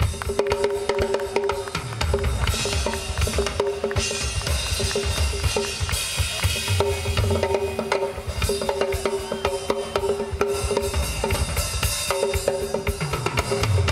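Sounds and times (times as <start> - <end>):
drum kit solo: 0.0 - 13.9.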